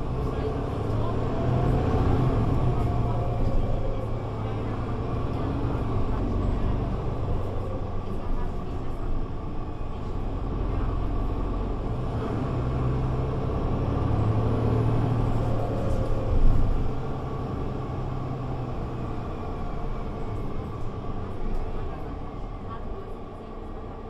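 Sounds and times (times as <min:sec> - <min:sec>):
bus diesel engine drone: 0:00.0 - 0:24.0.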